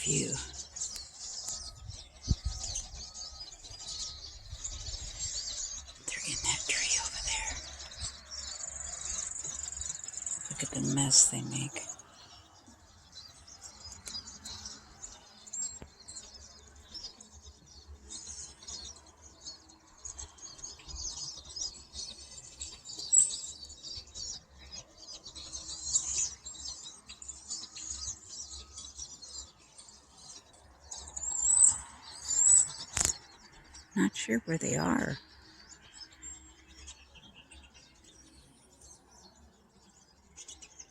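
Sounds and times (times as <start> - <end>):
flock of birds chattering: 0.0 - 40.9.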